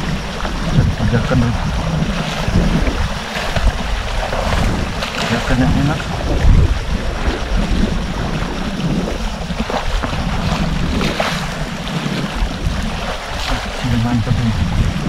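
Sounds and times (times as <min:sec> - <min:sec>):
small waves splashing over rocks: 0:00.0 - 0:15.0
wind rumbling on microphone: 0:00.0 - 0:15.0.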